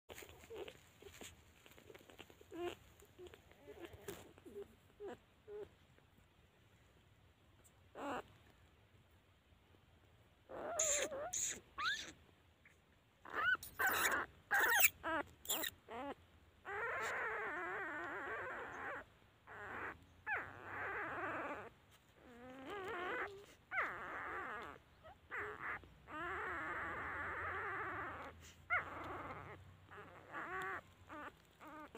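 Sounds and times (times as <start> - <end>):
puppies whimpering and squealing: 0.1 - 5.8, 10.5 - 12.2, 13.3 - 31.9.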